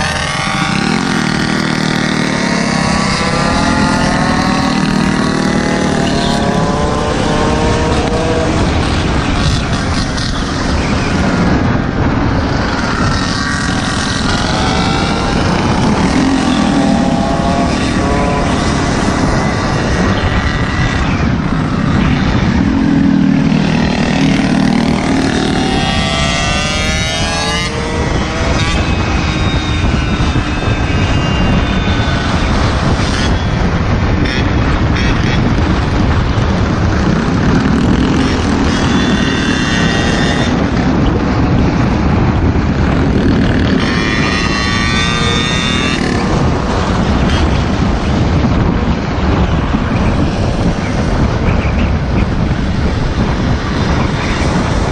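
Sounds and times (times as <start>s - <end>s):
small engines revving: 0.0s - 11.7s, 12.4s - 41.9s, 42.9s - 48.1s.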